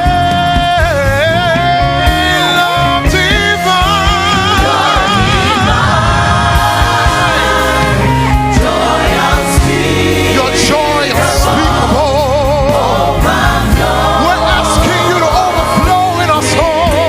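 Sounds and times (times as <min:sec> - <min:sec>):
band with bass and drums: 0:00.0 - 0:17.0.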